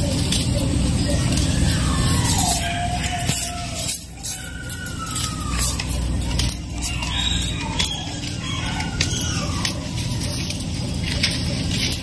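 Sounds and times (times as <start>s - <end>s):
high gliding calls: 0.0s - 10.8s.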